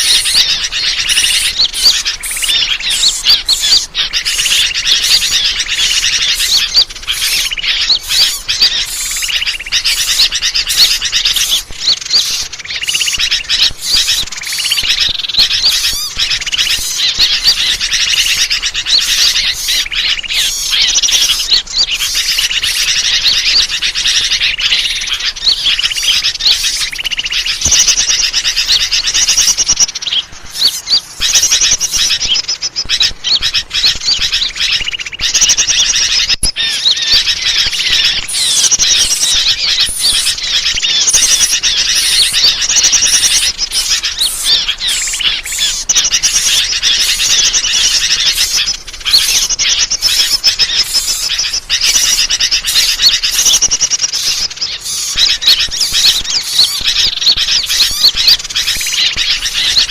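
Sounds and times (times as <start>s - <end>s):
small birds chirping chorus: 0.0s - 59.9s.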